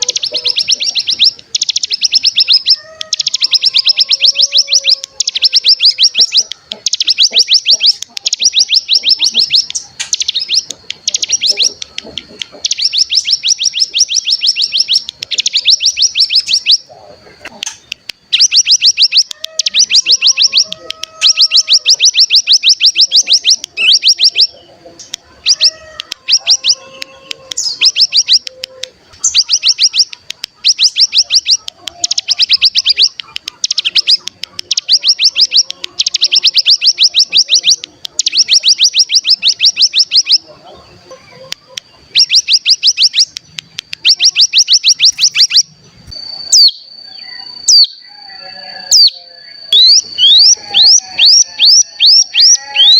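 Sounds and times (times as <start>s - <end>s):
bird singing fast trill: 0.0s - 16.9s, 17.6s - 28.5s, 29.2s - 40.7s, 41.3s - 52.9s.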